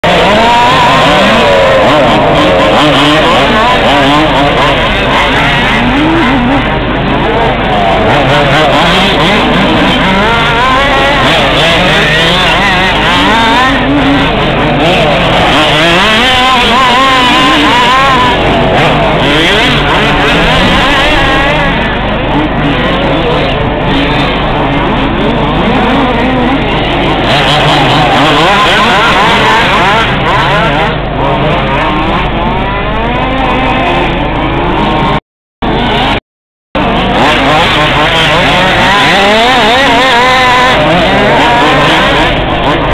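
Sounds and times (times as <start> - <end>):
radio-controlled buggy engines revving: 0.0 - 36.2, 36.8 - 42.9.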